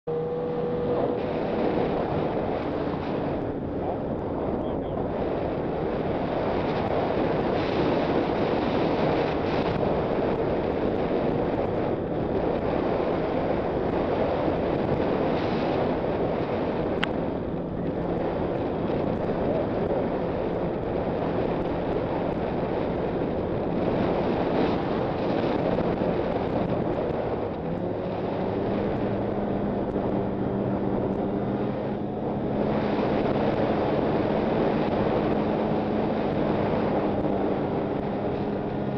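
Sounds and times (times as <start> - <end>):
snowmobile engine running: 0.0 - 38.9
wind rushing over microphone: 0.0 - 38.9.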